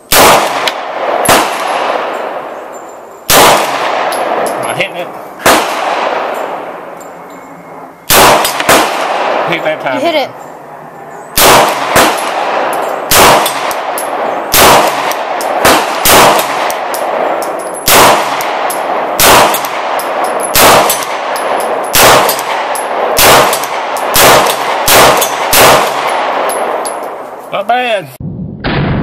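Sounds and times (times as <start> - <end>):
pistol shots echoing: 0.1 - 7.0, 8.1 - 9.9, 11.3 - 27.2.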